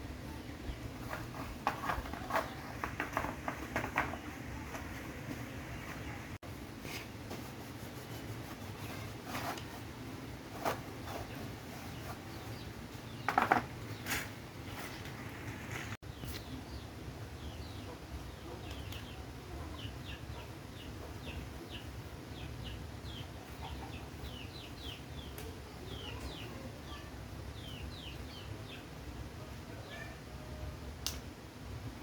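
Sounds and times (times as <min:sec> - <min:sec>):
small birds chirping: 0:00.1 - 0:07.1, 0:10.5 - 0:30.6.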